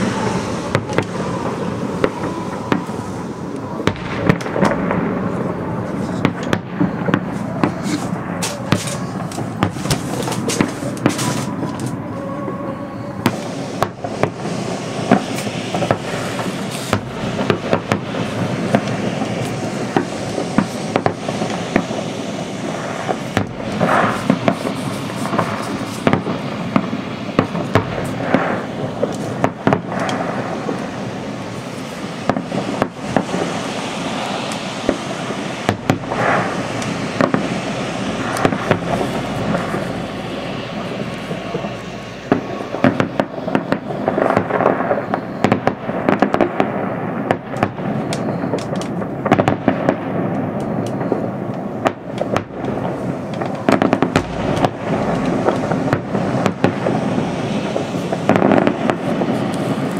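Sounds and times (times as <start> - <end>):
fireworks bangs: 0.0 - 59.9
fireworks crackle: 0.0 - 59.9.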